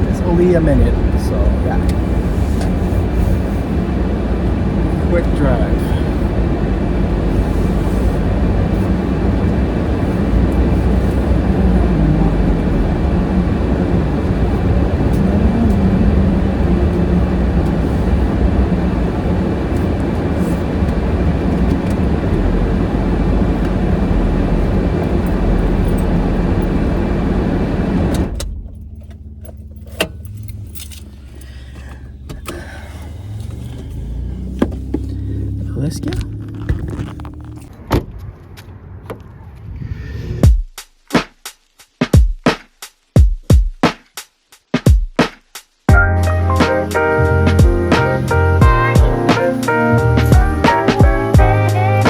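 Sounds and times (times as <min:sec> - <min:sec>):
car engine and road rumble: 0:00.0 - 0:40.5, 0:45.8 - 0:52.0.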